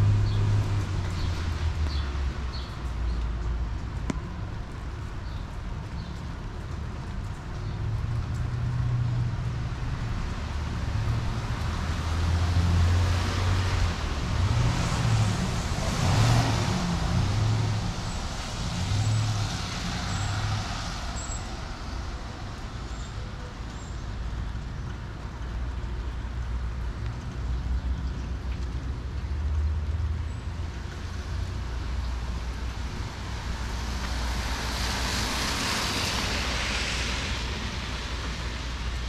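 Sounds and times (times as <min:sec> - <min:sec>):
vehicle passing on wet road: 0:00.0 - 0:39.0.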